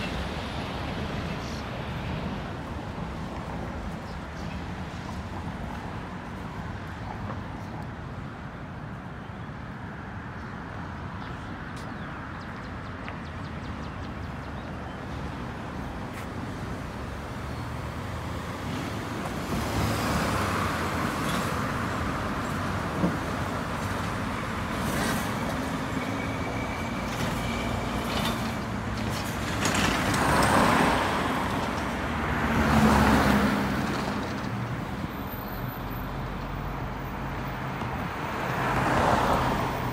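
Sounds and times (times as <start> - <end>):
steady hum of cars: 0.0 - 39.9
vehicles passing close by: 0.0 - 39.9.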